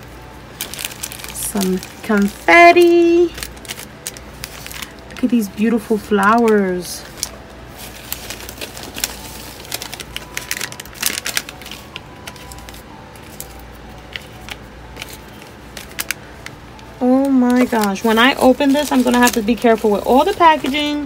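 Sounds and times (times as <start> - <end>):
cellophane and paper crinkling: 0.0 - 21.0.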